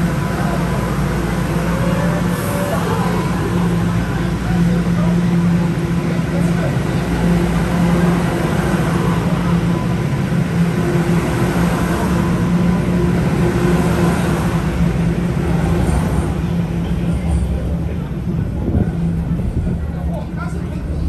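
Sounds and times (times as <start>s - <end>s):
subway train running: 0.0s - 21.0s.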